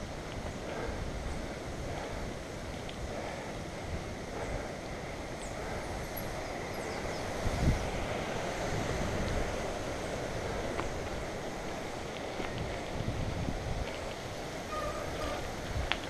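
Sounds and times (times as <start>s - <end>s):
bike tyres rolling on dirt: 0.0s - 16.0s
wind buffeting microphone: 0.0s - 16.0s.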